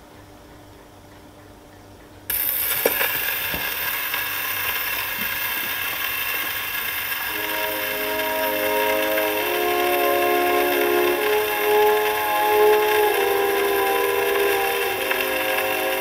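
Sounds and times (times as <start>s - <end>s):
record surface hiss and crackle: 0.0s - 16.0s
music from record: 2.3s - 16.0s.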